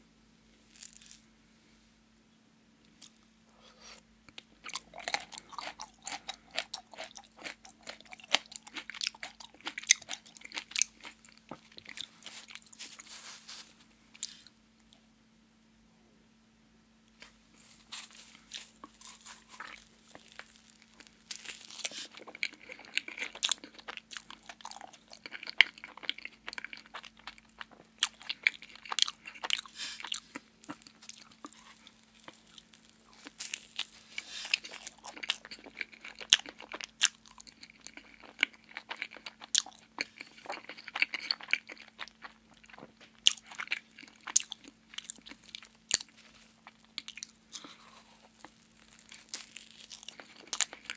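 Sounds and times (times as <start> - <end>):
faint steady hum: 0.0 - 50.9
biting and chewing: 4.4 - 14.5, 17.2 - 50.9.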